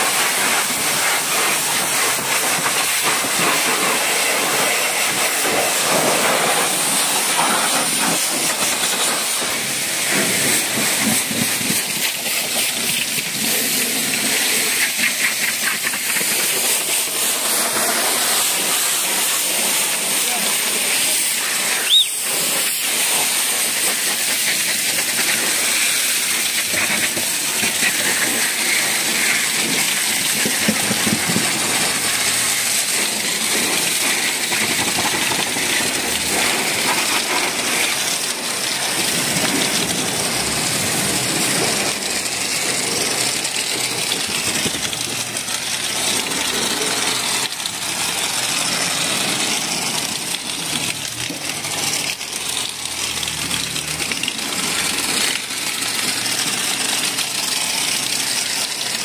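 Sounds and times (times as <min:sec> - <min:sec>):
pressure washer spraying water: 0:00.0 - 0:59.0.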